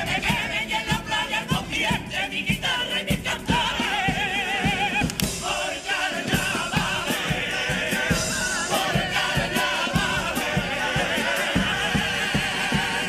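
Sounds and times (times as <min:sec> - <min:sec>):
male choir singing in harmony: 0:00.0 - 0:13.0
steady drum beat: 0:00.0 - 0:13.0
strummed guitars: 0:00.0 - 0:13.0.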